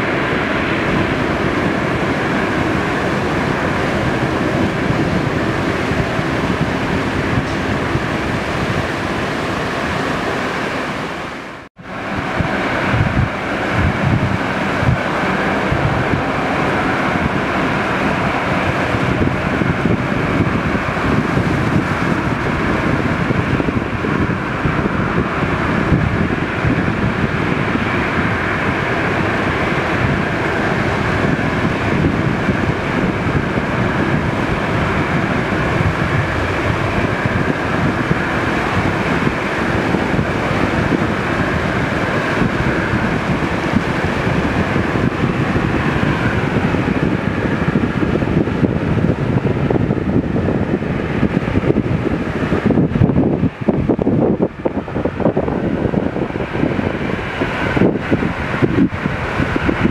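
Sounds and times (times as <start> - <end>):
airliner engines rumbling: 0.0 - 59.9
wind buffeting microphone: 0.0 - 59.9.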